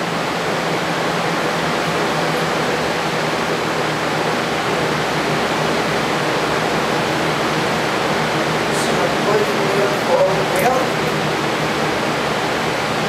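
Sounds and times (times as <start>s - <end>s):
electric fans rushing air: 0.0s - 13.0s.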